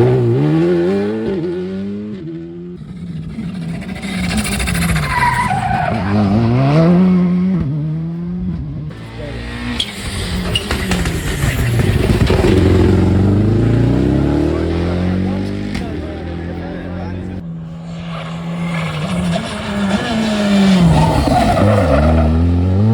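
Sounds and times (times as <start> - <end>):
rally car engine revving: 0.0 - 22.9.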